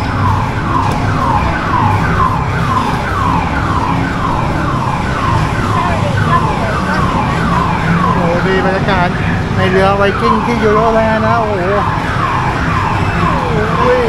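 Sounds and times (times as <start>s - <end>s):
falling siren-like tone: 0.0s - 14.0s.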